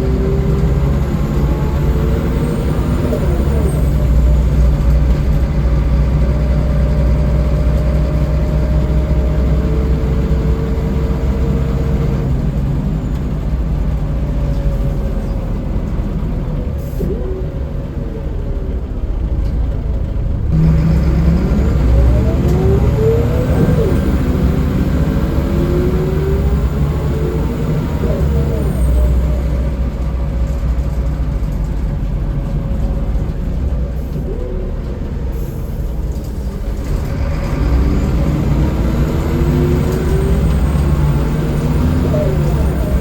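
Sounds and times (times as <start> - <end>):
bus diesel engine running: 0.0 - 43.0
rising drivetrain whine: 0.0 - 43.0.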